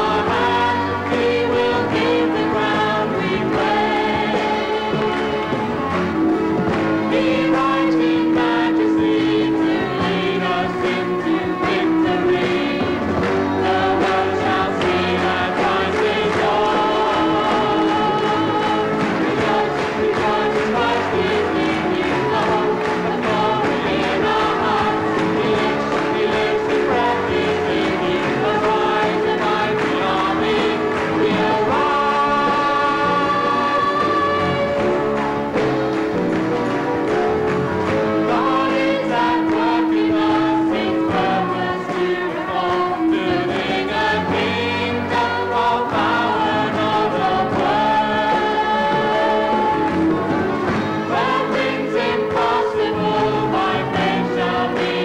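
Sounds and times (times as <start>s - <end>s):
congregation singing worship song: 0.0s - 55.0s.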